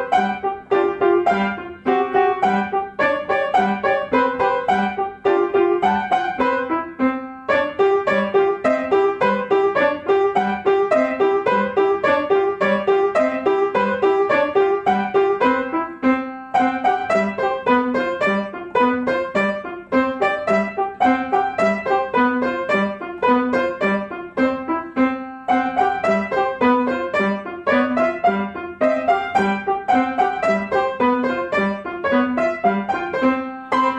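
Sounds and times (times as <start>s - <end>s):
piano duet: 0.0s - 33.9s.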